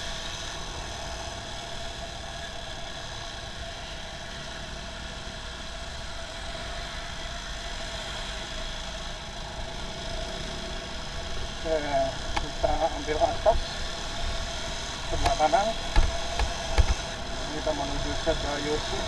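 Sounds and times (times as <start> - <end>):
constant whining tones: 0.0 - 19.0
motorcycle engine running: 0.0 - 19.0
road noise: 0.0 - 19.0.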